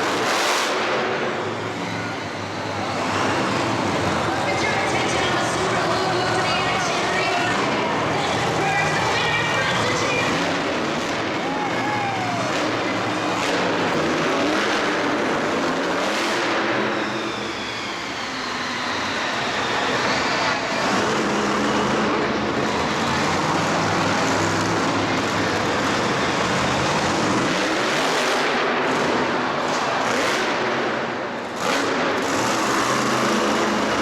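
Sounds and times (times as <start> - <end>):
vehicle engines revving: 0.0 - 34.0.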